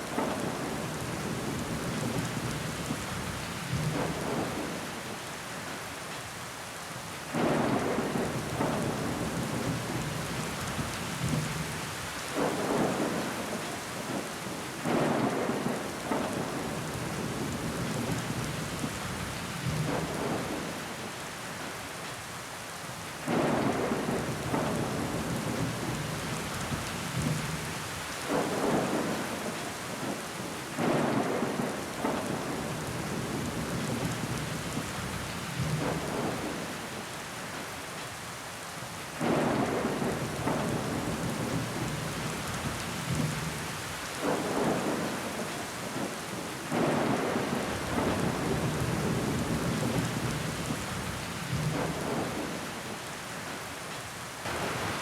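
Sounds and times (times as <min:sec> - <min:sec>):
rain on window glass: 0:00.0 - 0:06.4, 0:07.3 - 0:22.3, 0:23.2 - 0:38.2, 0:38.8 - 0:55.0.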